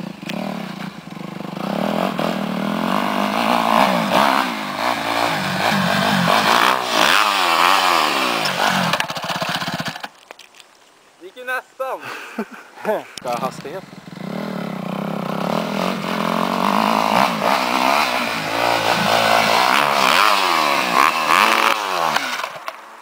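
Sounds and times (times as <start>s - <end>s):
dirt bike engine revving: 0.0s - 10.1s, 13.3s - 22.6s.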